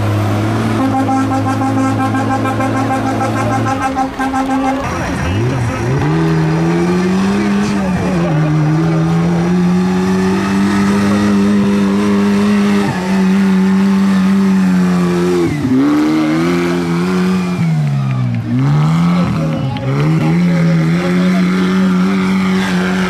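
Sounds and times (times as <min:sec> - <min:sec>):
tractor engine at high revs: 0:00.0 - 0:23.0.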